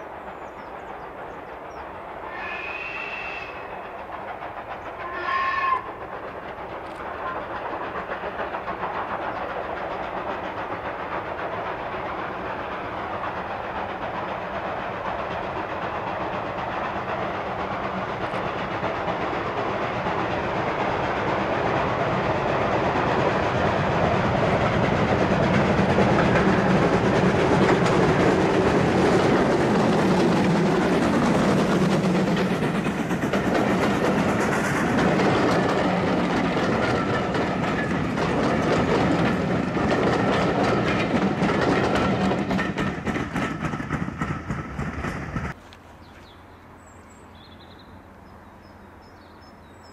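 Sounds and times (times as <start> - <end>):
train wheels clacking over rail joints: 0.0 - 46.3
steam locomotive passing: 0.0 - 49.9.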